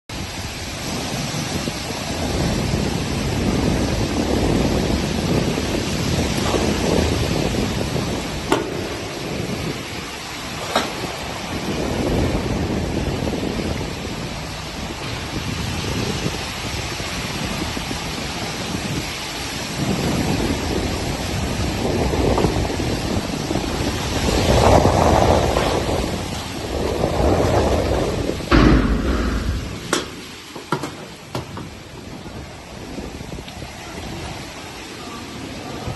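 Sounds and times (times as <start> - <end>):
wind and rain rushing: 0.0 - 35.9
wind buffeting microphone: 0.1 - 35.9.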